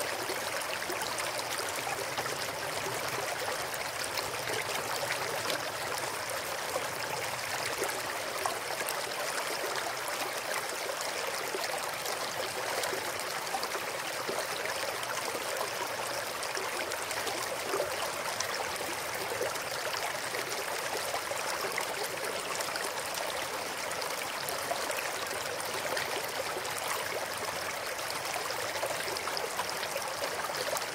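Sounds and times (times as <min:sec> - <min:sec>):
stream flowing over rocks: 0:00.0 - 0:30.9.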